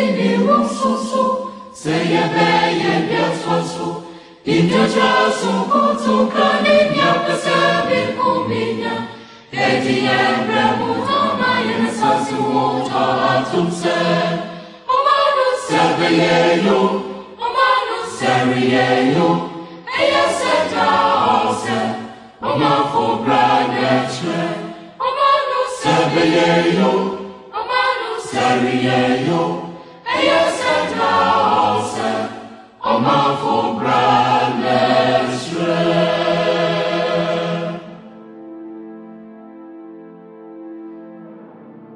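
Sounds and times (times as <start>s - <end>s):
choir singing: 0.0s - 39.4s.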